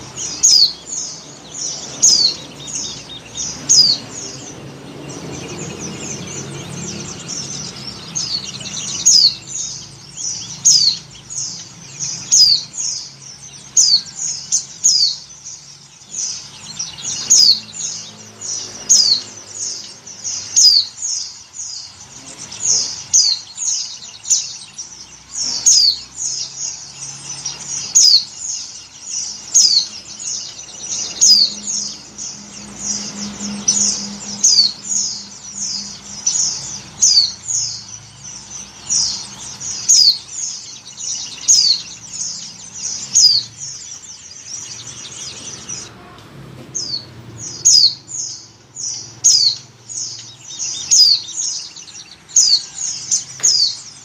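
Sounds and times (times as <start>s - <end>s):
bird high thin chirps: 0.0s - 54.0s.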